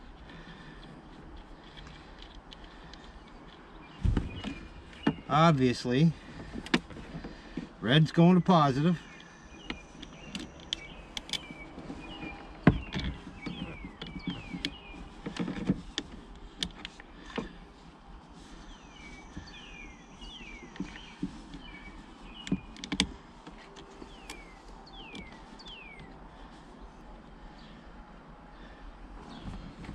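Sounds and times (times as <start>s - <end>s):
battery terminals clicking and knocking: 0.0s - 17.7s, 19.0s - 26.5s.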